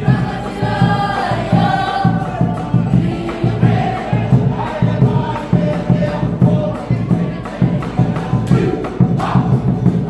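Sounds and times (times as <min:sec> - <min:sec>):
drum beat: 0:00.0 - 0:10.0
group of young voices singing: 0:00.0 - 0:10.0
strummed ukulele: 0:00.0 - 0:10.0.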